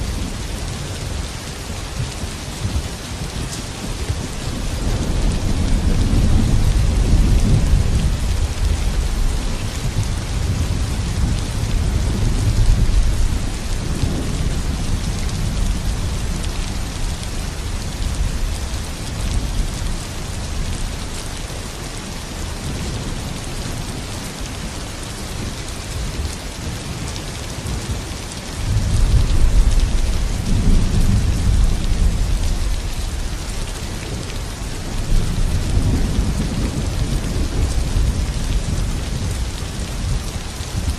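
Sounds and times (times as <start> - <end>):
steady rain: 0.0 - 40.9
low rolling thunder: 2.0 - 21.2, 27.0 - 40.9.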